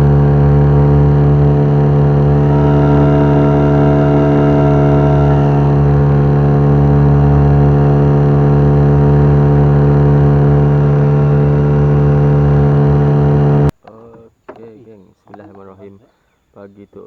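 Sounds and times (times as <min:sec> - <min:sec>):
outboard motor running: 0:00.0 - 0:13.7.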